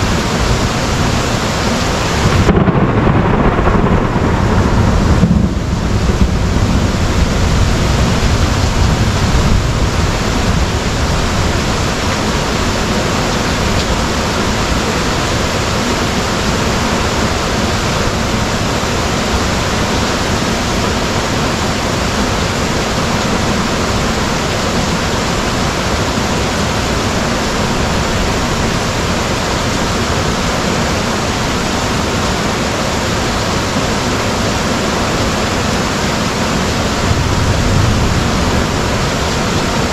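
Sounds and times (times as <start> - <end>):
heavy rain pouring: 0.0 - 39.9
thunder rumbling: 0.0 - 39.9.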